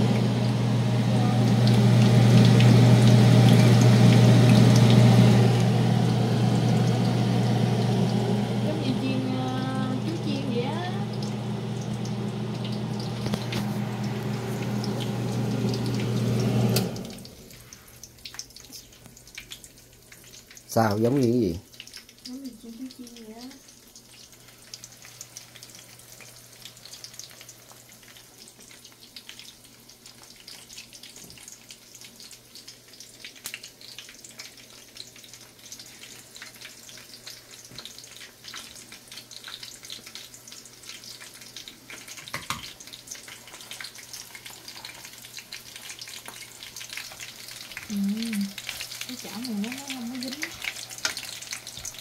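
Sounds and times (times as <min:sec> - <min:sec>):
chicken sizzling in hot oil: 0:00.0 - 0:52.0.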